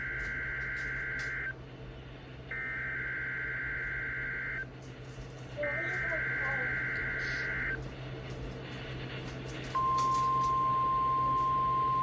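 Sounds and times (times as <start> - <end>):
receiver hum: 0.0 - 12.0.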